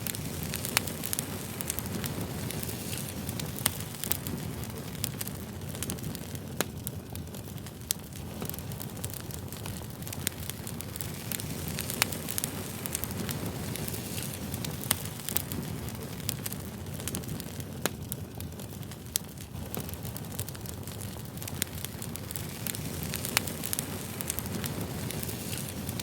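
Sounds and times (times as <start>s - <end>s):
campfire crackling: 0.0s - 26.0s
sharp fire pops: 0.0s - 26.0s.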